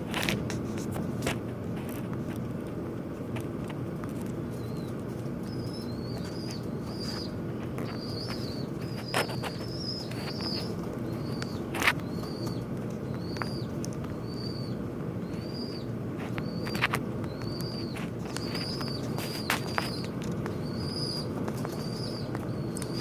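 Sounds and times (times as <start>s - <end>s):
low background hum: 0.0s - 23.0s
small birds chirping: 1.4s - 23.0s.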